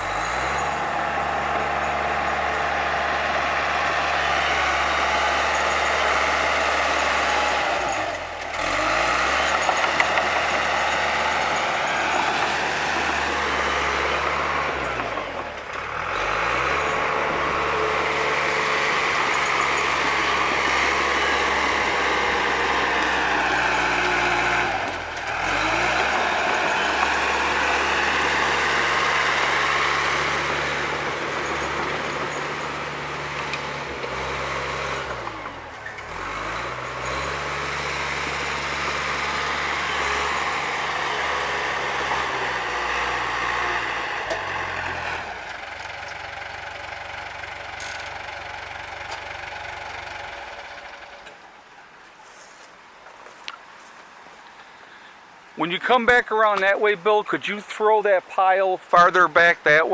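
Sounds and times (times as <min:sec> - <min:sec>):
bulldozer diesel engine: 0:00.0 - 0:53.0, 0:53.6 - 0:59.9.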